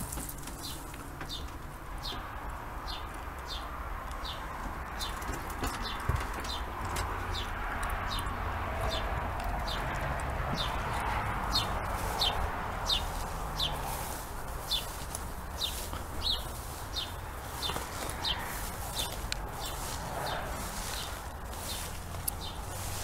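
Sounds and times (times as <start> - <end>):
steady rustle: 0.0 - 23.0.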